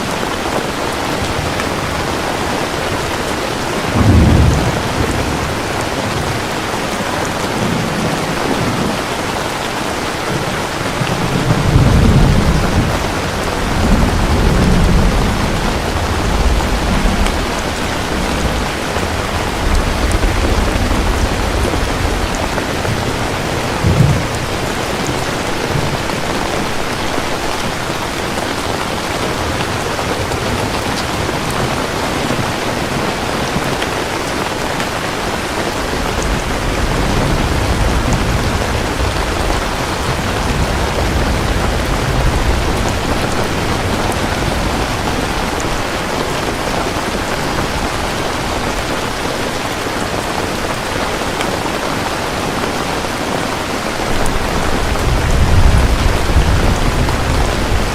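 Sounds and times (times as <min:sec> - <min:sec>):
heavy rain falling: 0:00.0 - 0:57.9
thunder rumbling: 0:00.1 - 0:57.9.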